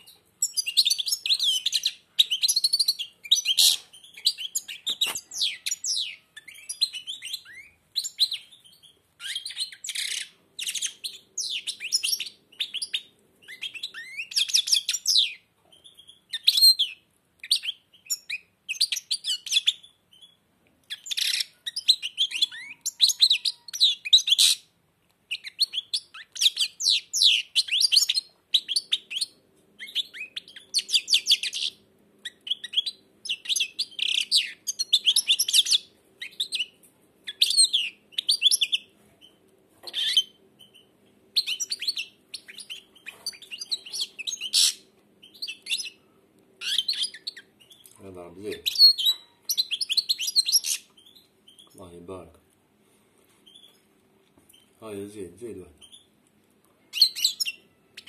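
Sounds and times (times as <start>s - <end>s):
bird twittering and trilling: 0.0s - 24.7s, 25.3s - 52.2s, 53.4s - 53.9s, 56.8s - 58.0s.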